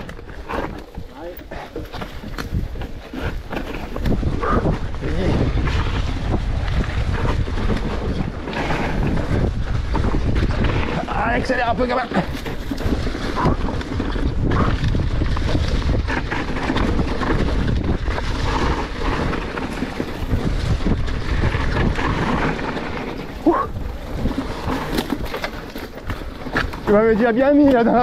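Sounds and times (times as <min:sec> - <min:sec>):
bike knocks and rattles: 0:00.0 - 0:28.0
bike tyres rolling on dirt trail: 0:00.0 - 0:28.0
wind buffeting microphone: 0:00.0 - 0:28.0.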